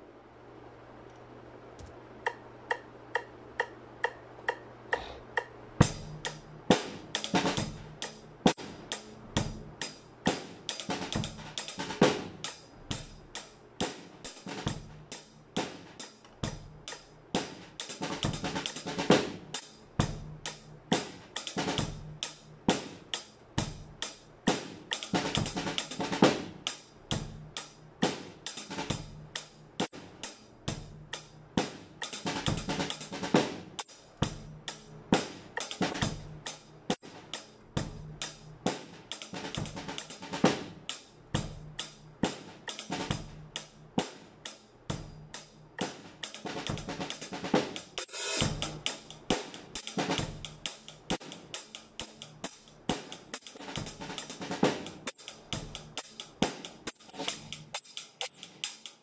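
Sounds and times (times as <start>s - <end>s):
metronome clicking: 1.1s - 9.1s, 9.8s - 12.6s, 15.6s - 19.7s, 24.0s - 26.9s, 27.5s - 37.6s, 38.2s - 59.0s
snare drum rolls: 5.8s - 59.0s.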